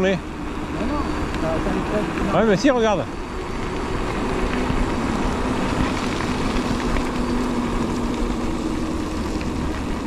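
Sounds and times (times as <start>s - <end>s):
bike tyre and wind noise: 0.0s - 10.0s
constant low hum: 0.0s - 10.0s.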